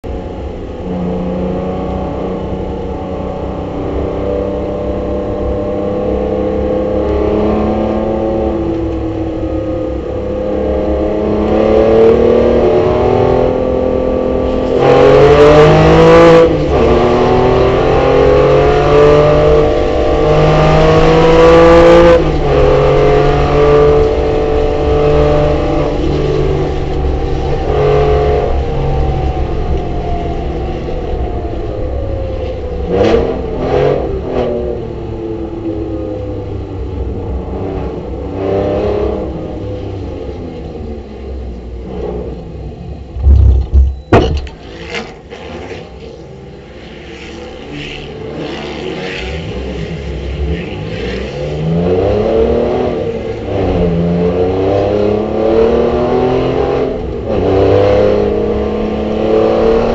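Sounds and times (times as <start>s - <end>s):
road and wind rumble: 0.0s - 59.9s
race car engine accelerating: 0.9s - 31.9s, 32.5s - 59.9s.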